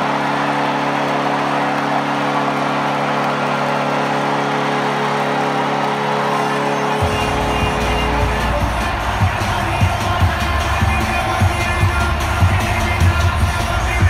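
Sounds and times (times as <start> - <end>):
crowd cheering and yelling: 0.0 - 14.0.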